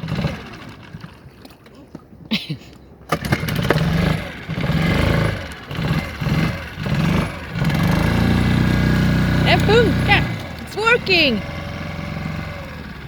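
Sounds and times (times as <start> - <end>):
outboard motor running unevenly: 0.0 - 13.0.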